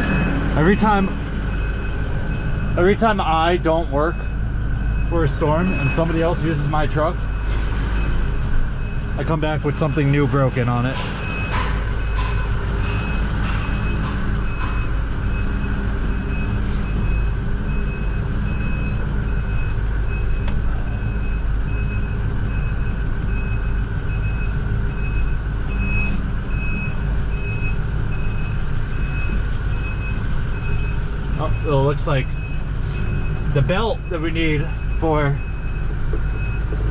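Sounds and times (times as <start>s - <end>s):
truck backup alarm beeping: 0.0s - 36.9s
truck engine running: 0.0s - 36.9s.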